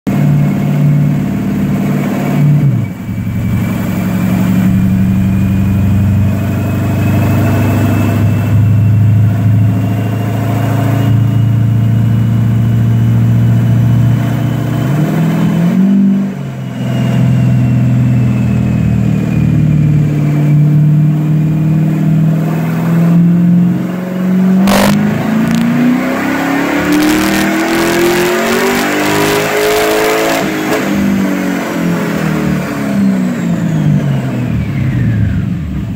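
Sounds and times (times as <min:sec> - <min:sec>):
car engine running on a dyno: 0:00.1 - 0:35.9.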